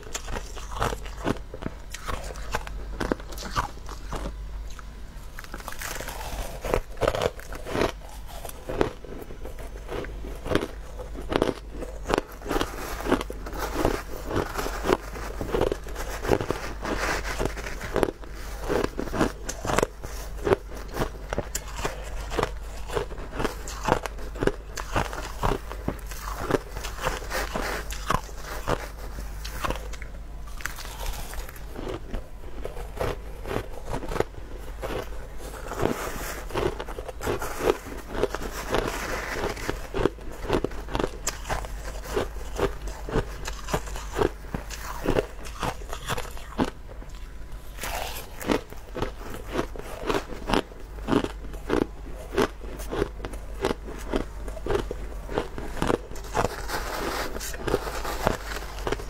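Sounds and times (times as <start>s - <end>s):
crushed ice being chewed: 0.0s - 59.0s.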